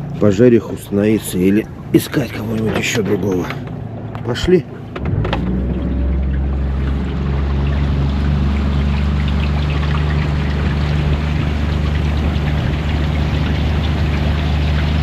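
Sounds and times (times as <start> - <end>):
motorboat engine drone: 0.0 - 15.0
water rushing past hull: 0.0 - 15.0.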